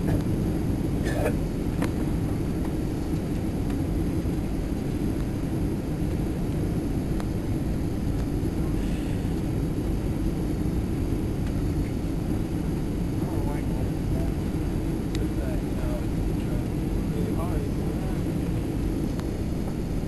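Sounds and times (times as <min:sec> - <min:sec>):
jet engines rumbling: 0:00.0 - 0:20.0
rushing airflow: 0:00.0 - 0:20.0.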